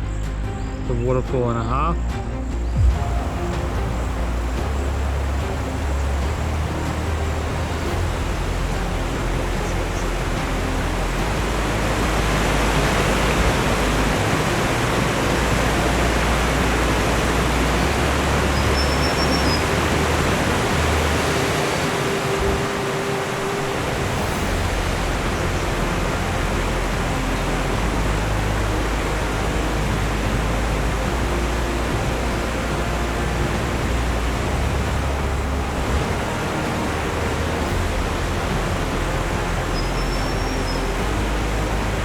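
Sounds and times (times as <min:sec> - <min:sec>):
wind rumble on microphone: 0:02.5 - 0:42.0
waterfall roaring: 0:02.8 - 0:42.0.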